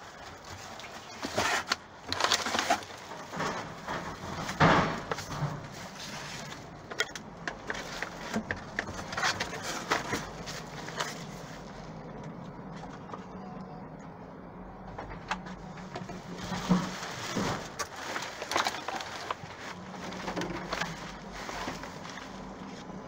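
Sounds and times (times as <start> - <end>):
plastic bags rustling: 0.0 - 13.0, 15.6 - 23.0.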